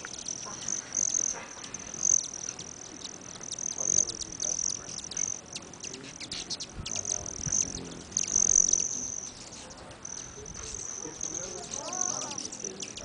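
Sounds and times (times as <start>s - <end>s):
hummingbird wing trill: 0.0s - 13.0s.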